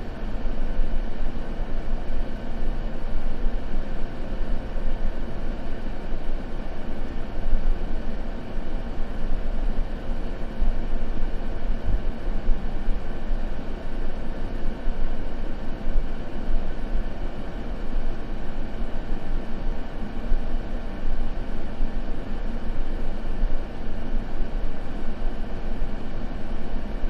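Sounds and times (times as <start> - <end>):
deep rumbling white noise: 0.0 - 27.0.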